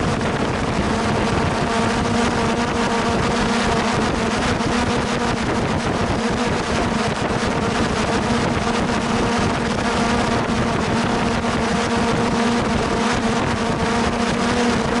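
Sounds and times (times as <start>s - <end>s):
drone propellers humming: 0.0s - 15.0s
wind noise on microphone: 0.0s - 15.0s.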